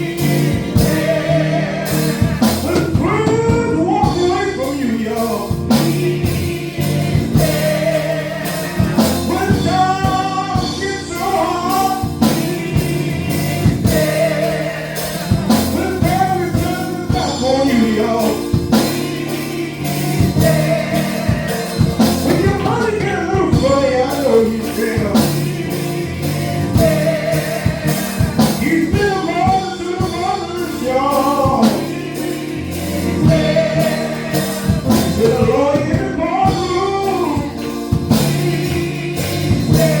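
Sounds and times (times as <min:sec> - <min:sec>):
band with steady beat: 0:00.0 - 0:40.0
voices singing gospel: 0:00.0 - 0:40.0.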